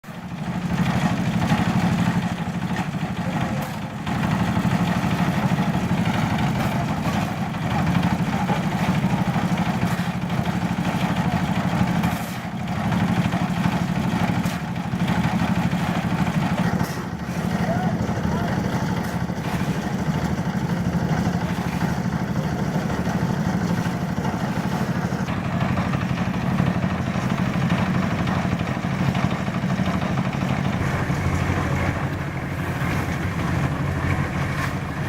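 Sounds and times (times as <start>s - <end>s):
engine idling: 0.1s - 35.0s.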